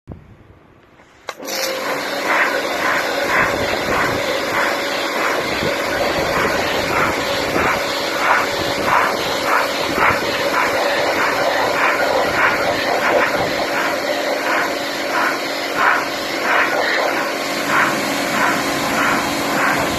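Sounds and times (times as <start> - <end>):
pressure washer pump motor running: 1.3 - 19.9
water jet hissing: 1.6 - 19.9.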